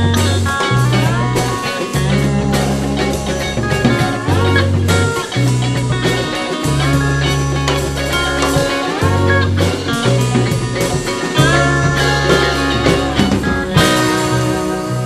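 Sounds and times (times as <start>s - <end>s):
bass guitar: 0.0s - 15.0s
drum kit: 0.0s - 15.0s
electric guitar: 0.0s - 15.0s
lap steel guitar sliding: 0.0s - 15.0s.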